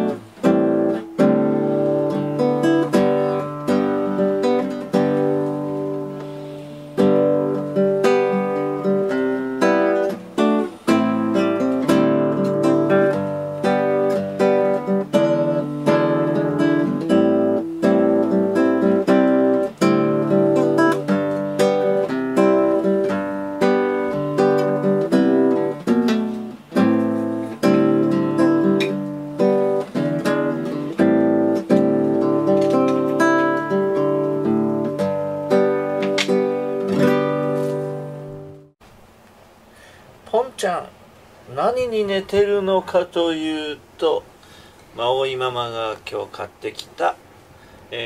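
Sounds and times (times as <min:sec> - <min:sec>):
acoustic guitar music: 0:00.0 - 0:38.8, 0:39.7 - 0:48.0.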